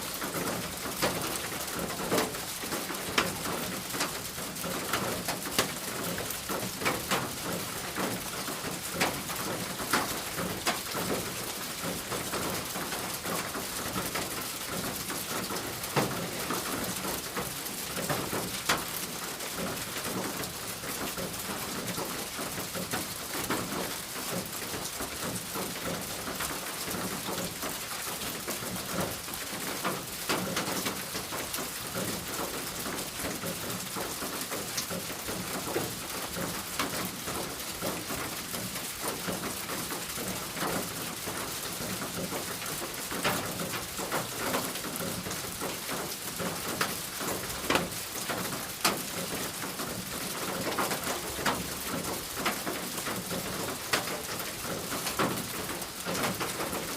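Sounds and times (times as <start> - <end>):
rain hissing on roof: 0.0 - 56.9
raindrop taps: 0.2 - 19.0, 19.6 - 56.9.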